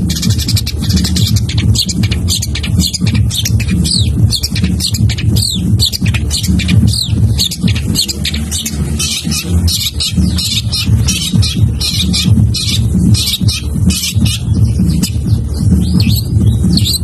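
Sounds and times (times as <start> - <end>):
bird singing chattering notes: 0.0 - 17.0.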